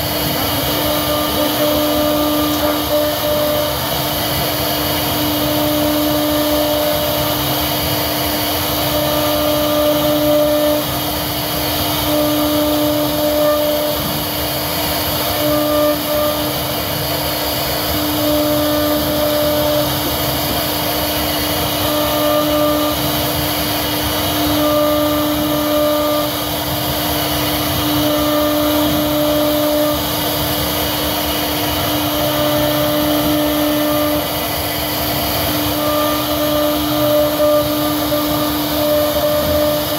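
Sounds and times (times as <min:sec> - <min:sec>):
router spindle whine: 0:00.0 - 0:39.9
bit cutting wood: 0:00.1 - 0:30.3, 0:30.9 - 0:39.9.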